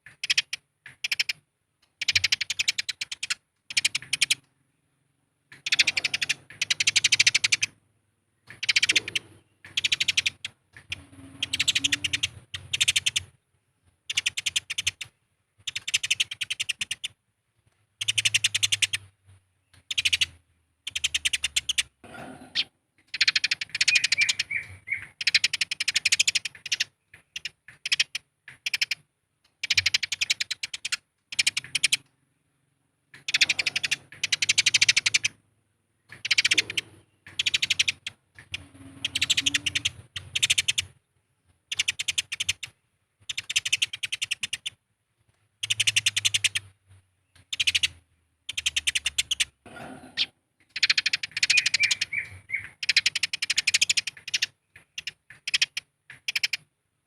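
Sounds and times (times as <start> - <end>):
sparrows harsh chattering: 0.0 - 1.4, 2.0 - 4.4, 5.5 - 7.8, 8.4 - 13.4, 14.0 - 17.2, 18.0 - 29.0, 29.6 - 32.0, 33.1 - 35.4, 36.0 - 41.0, 41.7 - 44.8, 45.6 - 56.7.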